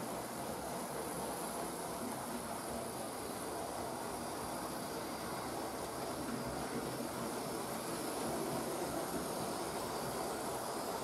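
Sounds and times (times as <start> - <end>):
wheels rolling on rails: 0.0 - 11.0.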